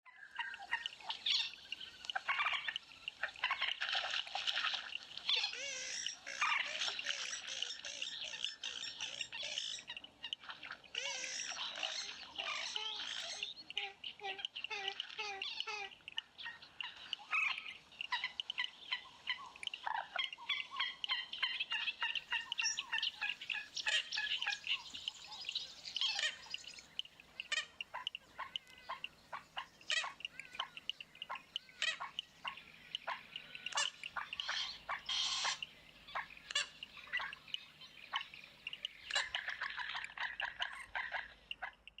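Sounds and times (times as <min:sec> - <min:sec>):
birds chirping and squawking: 0:00.1 - 0:42.0.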